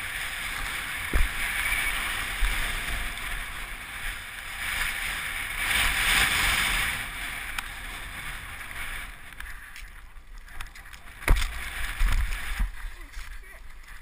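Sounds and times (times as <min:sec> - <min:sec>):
skis scraping over snow: 0:00.0 - 0:14.0
wind rumble on microphone: 0:00.0 - 0:14.0.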